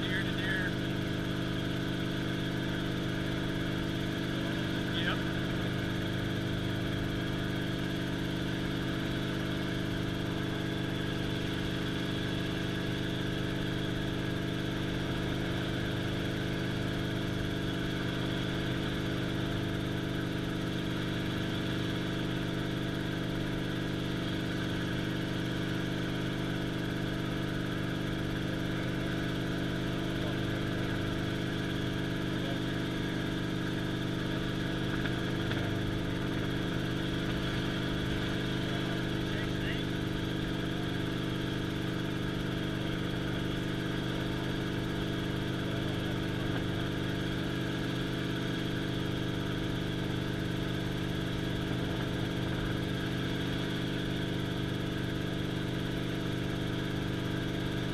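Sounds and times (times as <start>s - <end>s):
helicopter engine and rotor drone: 0.0s - 57.9s.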